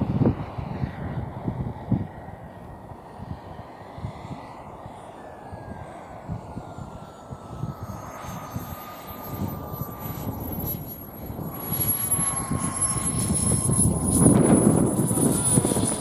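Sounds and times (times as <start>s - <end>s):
model jet turbine whining: 0.0s - 16.0s.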